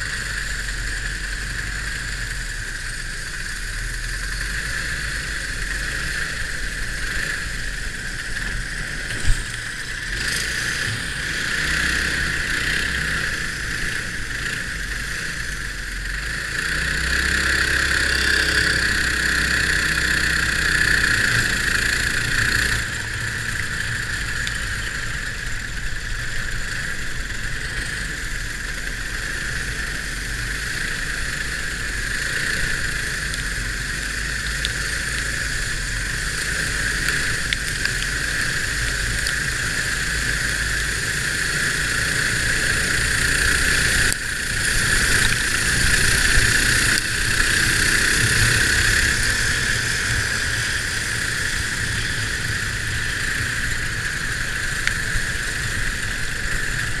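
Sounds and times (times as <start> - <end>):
go-kart engine running: 0.0 - 57.0
other kart engines: 0.0 - 57.0.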